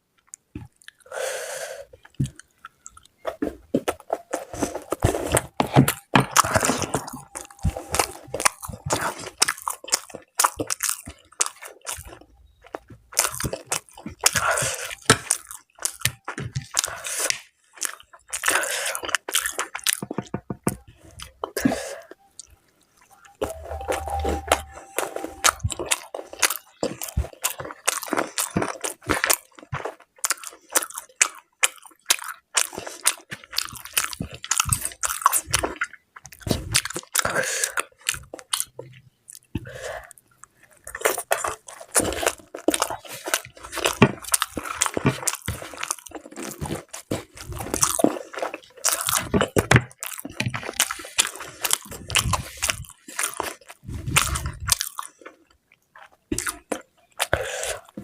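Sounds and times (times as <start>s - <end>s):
person chewing food: 0.1s - 58.0s.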